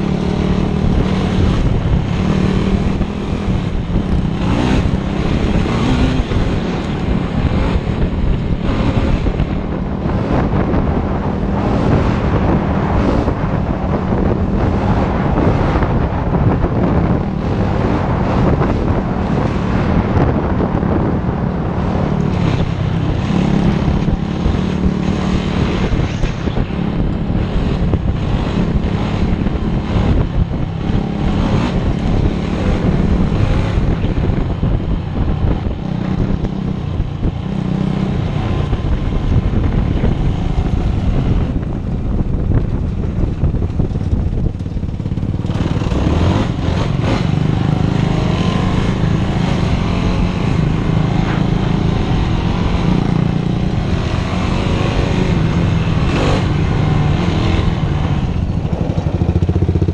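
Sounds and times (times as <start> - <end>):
atv engine running: 0.0 - 59.9
wind buffeting microphone: 0.0 - 59.9.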